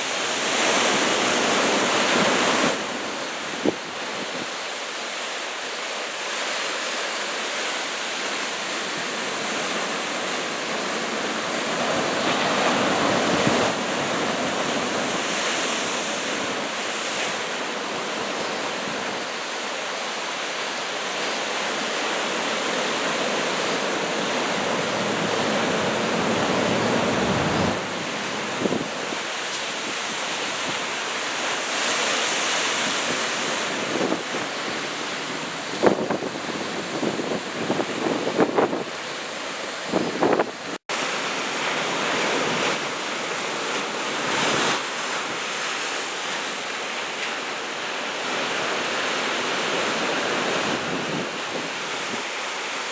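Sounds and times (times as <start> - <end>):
heavy surf breaking on shore: 0.0 - 52.9.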